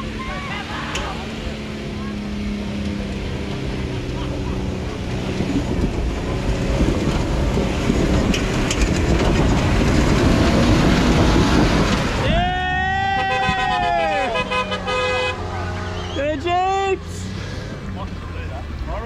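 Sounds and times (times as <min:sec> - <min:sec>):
engine pulling up a hill: 0:00.0 - 0:19.0
tyres rumbling over dirt: 0:00.0 - 0:19.0.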